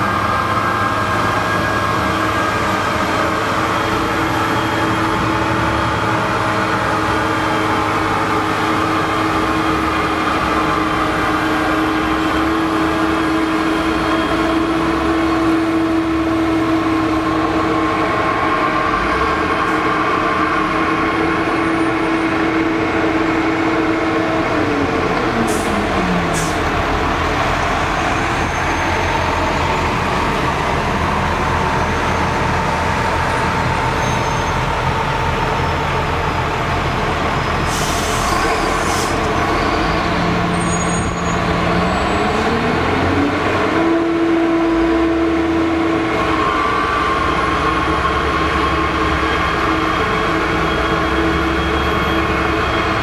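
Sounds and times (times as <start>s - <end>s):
diesel snowblower engine under load: 0.0s - 53.0s.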